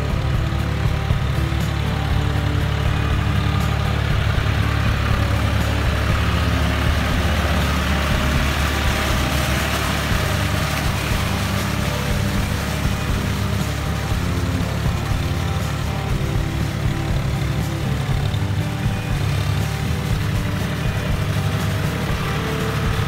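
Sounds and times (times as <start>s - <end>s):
diesel tractor engine running: 0.0s - 23.0s
rotavator churning mud: 0.0s - 23.0s.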